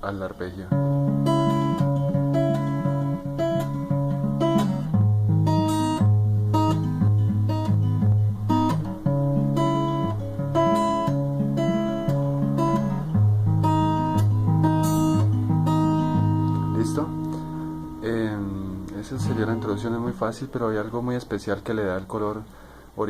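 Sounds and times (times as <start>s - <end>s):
fingerpicked acoustic guitar: 0.3s - 22.9s.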